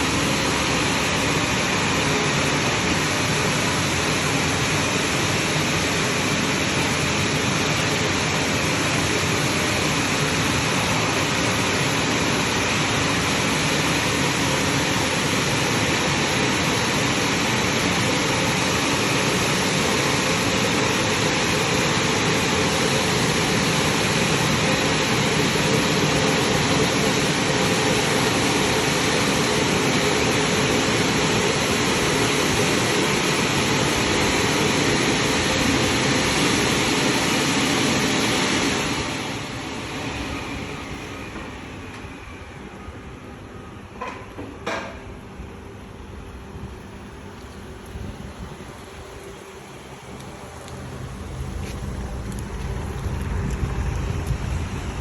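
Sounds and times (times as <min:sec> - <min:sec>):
car wash rushing spray: 0:00.0 - 0:43.0, 0:45.2 - 0:55.0.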